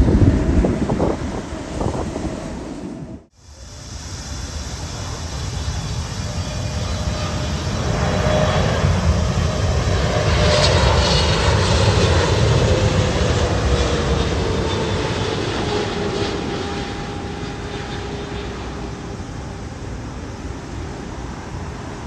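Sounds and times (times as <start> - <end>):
airliner engine roar: 0.0 - 22.0
faint high whine: 2.8 - 22.0.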